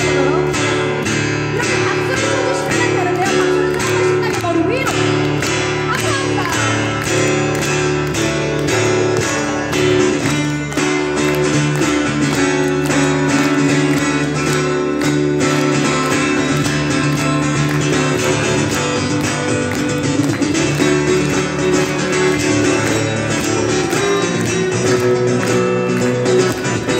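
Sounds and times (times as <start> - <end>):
acoustic guitar strumming: 0.0 - 26.9.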